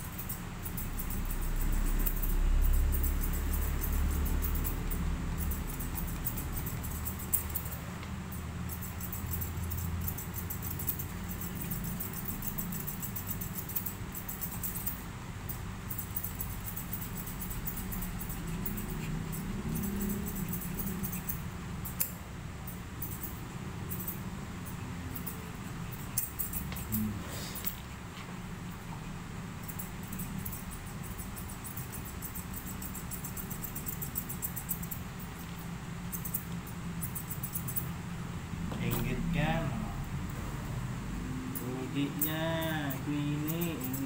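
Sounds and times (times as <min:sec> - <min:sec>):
scissors snipping fur: 0:00.0 - 0:27.9, 0:29.6 - 0:35.5, 0:36.1 - 0:38.0, 0:41.5 - 0:44.0
steady low hum: 0:00.0 - 0:44.0.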